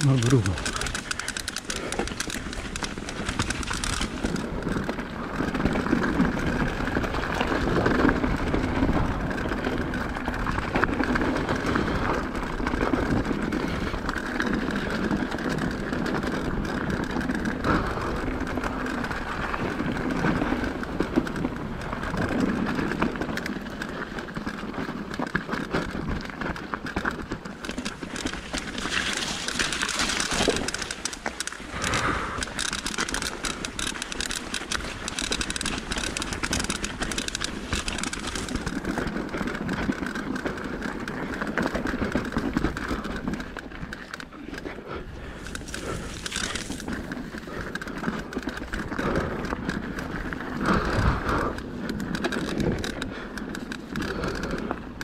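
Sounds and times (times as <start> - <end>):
bike rattling and clattering: 0.0 - 55.0
bike tyres on dirt: 0.0 - 55.0.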